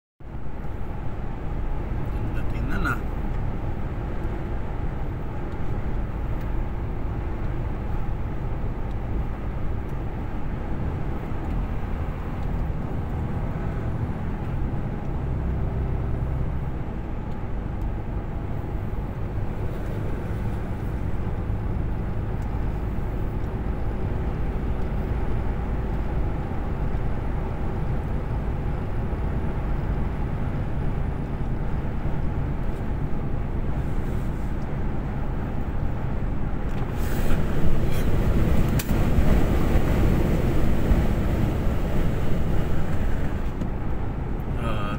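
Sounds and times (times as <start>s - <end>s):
truck engine drone: 0.2s - 44.9s
tyres on road: 0.2s - 44.9s.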